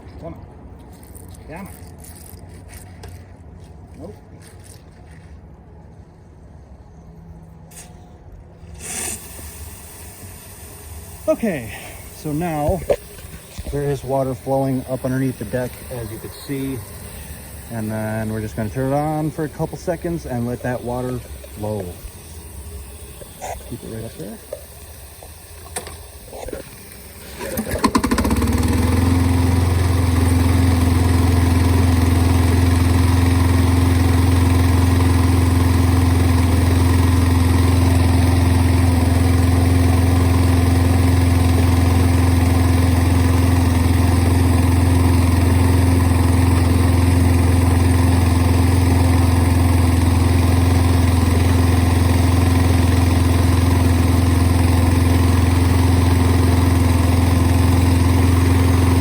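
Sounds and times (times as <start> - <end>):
lawn mower engine: 7.7 - 59.0.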